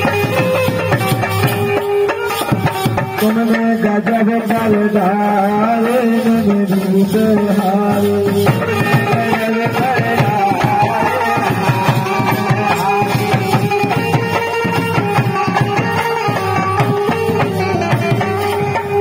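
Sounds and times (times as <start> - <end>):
dholak hand drumming: 0.0 - 19.0
sustained instrumental melody: 0.0 - 19.0.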